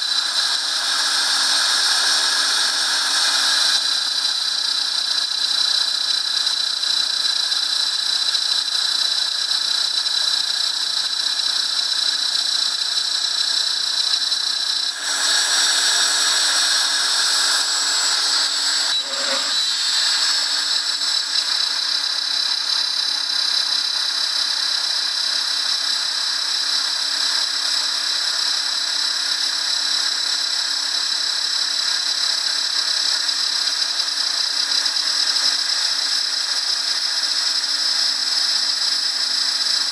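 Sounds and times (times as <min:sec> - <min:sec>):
router spindle whine milling metal: 0:00.0 - 0:39.9.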